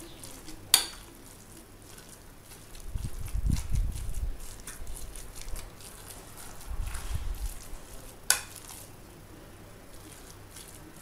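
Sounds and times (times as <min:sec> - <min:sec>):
spoon mashing wet minced meat: 0:00.0 - 0:11.0.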